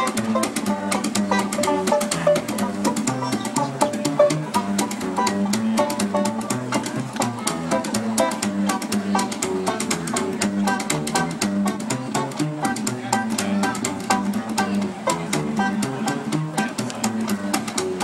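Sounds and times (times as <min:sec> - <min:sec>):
quick melody notes: 0:00.0 - 0:18.0
strummed acoustic guitar: 0:00.0 - 0:18.0
upright bass plucked: 0:00.0 - 0:18.0.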